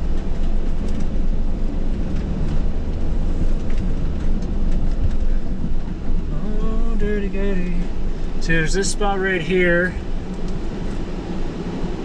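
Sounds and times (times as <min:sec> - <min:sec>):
van driving on rough road: 0:00.0 - 0:12.0.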